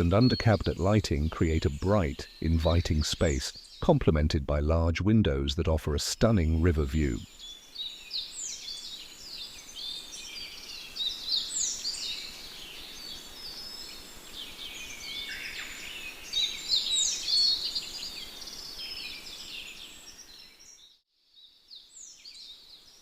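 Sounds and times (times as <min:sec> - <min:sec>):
birds chirping and singing: 0:00.0 - 0:20.9.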